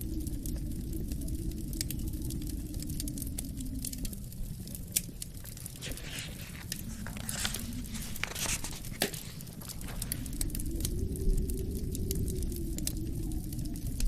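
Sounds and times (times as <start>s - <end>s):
wind rumble: 0.0s - 14.0s
wood fire crackling: 0.0s - 14.0s.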